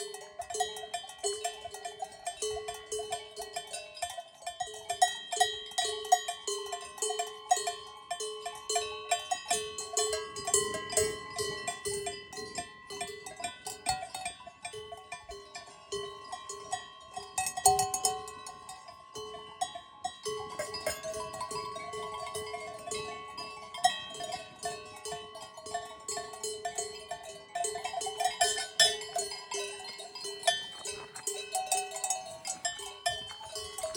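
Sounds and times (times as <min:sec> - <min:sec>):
cowbells clanking: 0:00.0 - 0:33.9.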